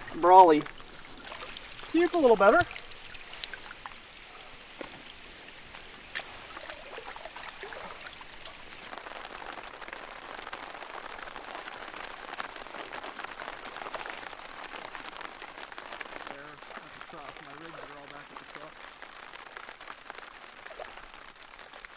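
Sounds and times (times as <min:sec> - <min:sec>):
rain pattering on a tarp: 0:00.0 - 0:21.9
sharp single raindrops: 0:00.0 - 0:21.9.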